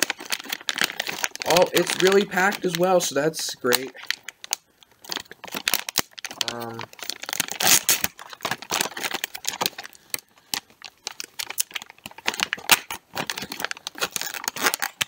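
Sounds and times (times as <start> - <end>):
plastic bag tearing and crinkling: 0.0 - 15.0.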